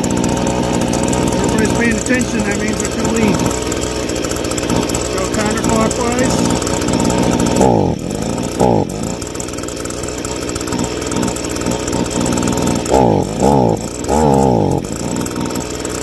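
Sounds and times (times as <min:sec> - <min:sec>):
leaf blower engine revving: 0:00.0 - 0:16.0.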